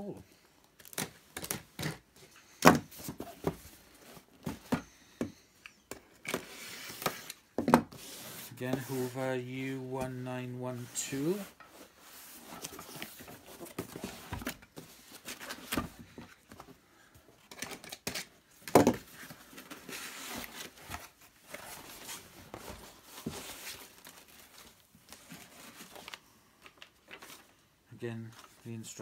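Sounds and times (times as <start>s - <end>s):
cardboard and paper rustling: 0.8s - 5.4s, 6.2s - 16.8s, 17.4s - 27.6s.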